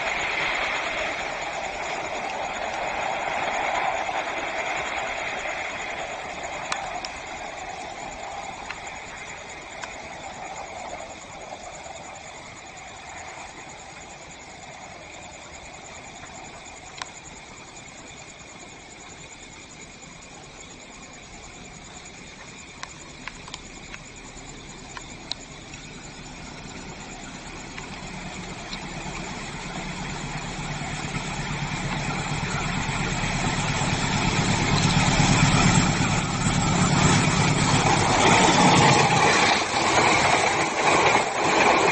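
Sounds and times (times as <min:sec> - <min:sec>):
diesel locomotive engine hum: 0:00.0 - 0:41.9.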